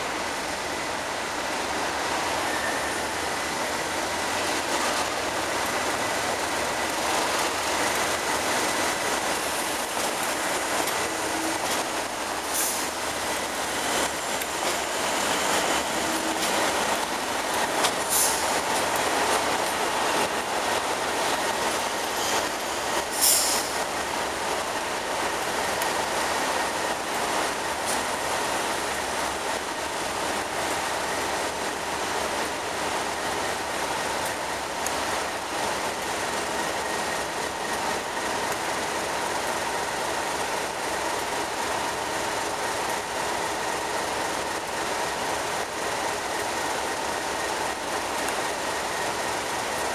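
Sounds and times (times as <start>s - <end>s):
diesel locomotive engines running: 0.0s - 49.9s.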